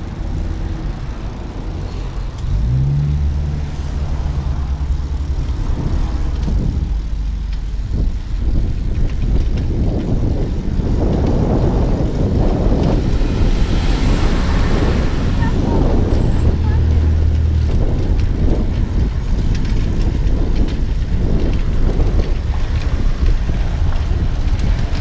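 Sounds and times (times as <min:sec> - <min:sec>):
road rumble: 0:00.0 - 0:25.0
vehicle engine hum passing: 0:00.0 - 0:25.0
wind buffeting microphone: 0:00.0 - 0:25.0.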